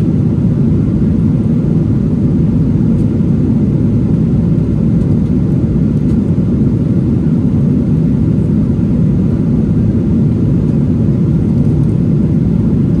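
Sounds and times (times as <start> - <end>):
jet engine drone: 0.0 - 13.0.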